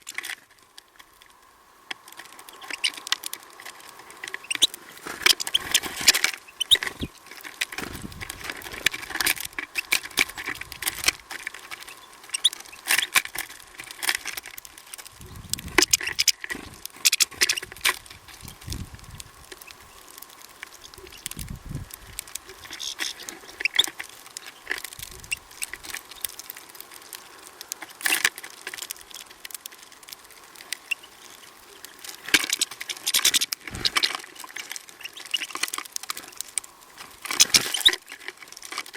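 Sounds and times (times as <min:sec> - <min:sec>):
birds pecking at seed: 0:00.0 - 0:38.9.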